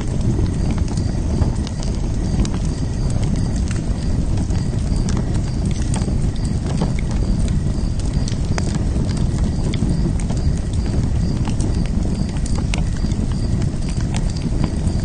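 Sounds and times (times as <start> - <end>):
fire crackles and pops: 0.0 - 15.0
wood fire roaring: 0.0 - 15.0.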